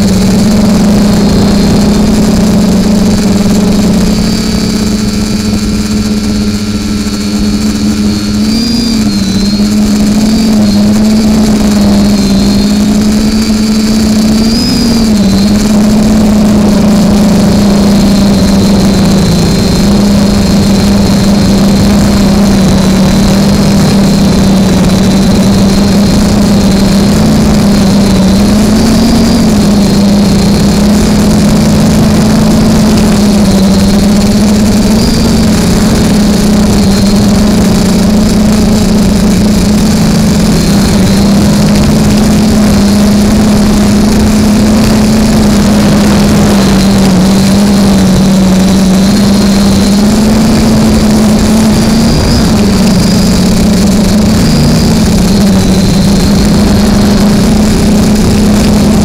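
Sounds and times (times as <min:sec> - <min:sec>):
drone motors buzzing: 0:00.0 - 0:59.0.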